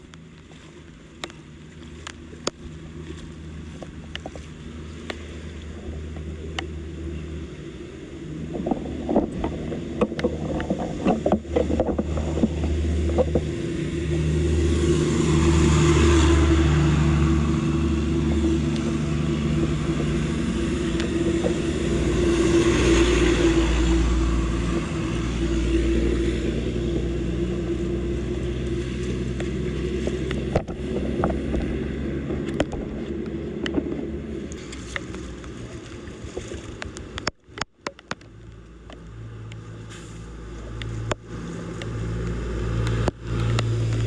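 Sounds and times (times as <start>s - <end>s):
vehicle engine humming: 0.0s - 44.0s.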